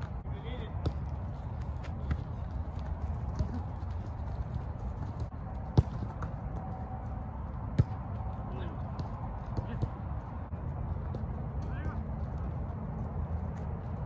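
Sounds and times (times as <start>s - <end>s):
soccer ball kicked: 0.0s - 12.4s
running footsteps on grass: 0.0s - 14.0s.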